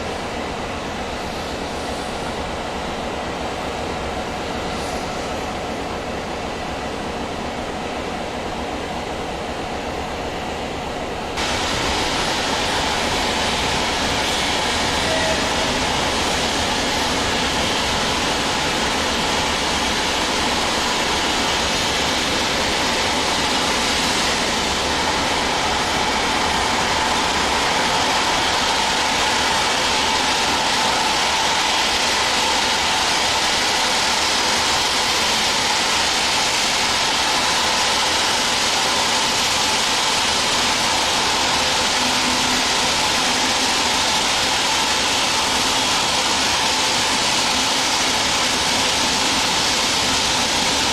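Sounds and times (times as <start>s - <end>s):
steam hissing from locomotive: 0.0s - 50.9s.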